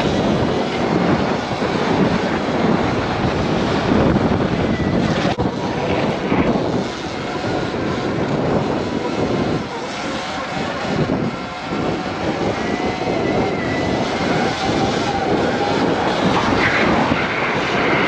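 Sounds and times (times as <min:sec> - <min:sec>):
road and tyre noise: 0:00.0 - 0:18.0
wind rushing over microphone: 0:00.0 - 0:18.0.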